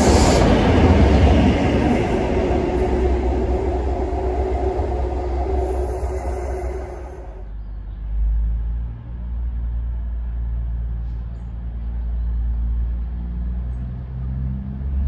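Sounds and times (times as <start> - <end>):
train engine rumbling: 0.0 - 15.0.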